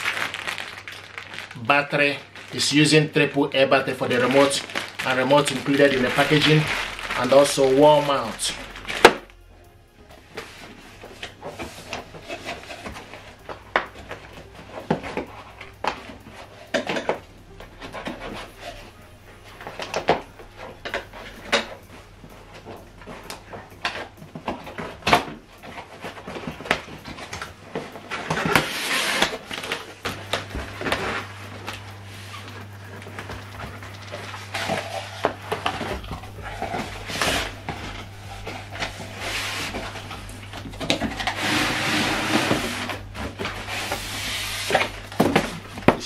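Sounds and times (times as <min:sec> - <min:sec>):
cardboard rustling and scraping: 0:03.9 - 0:09.4, 0:10.2 - 0:46.0.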